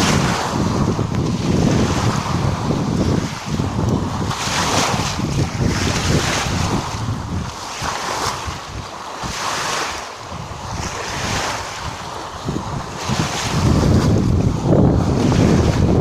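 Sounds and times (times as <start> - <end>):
sea waves washing in: 0.0 - 16.0
wind buffeting microphone: 0.0 - 16.0.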